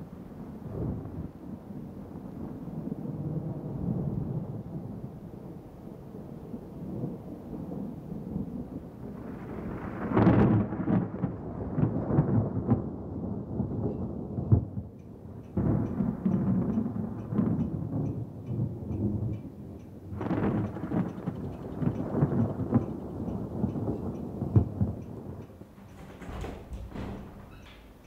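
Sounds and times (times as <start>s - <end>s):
thunder rumbling and crackling: 0.0s - 28.0s.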